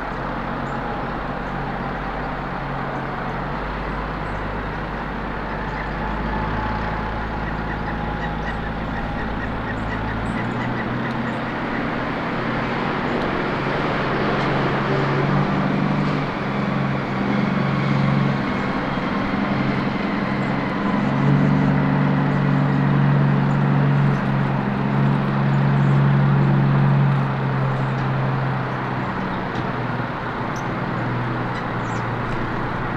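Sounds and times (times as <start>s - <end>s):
low engine hum: 0.0s - 32.9s
passing vehicles: 0.0s - 32.9s.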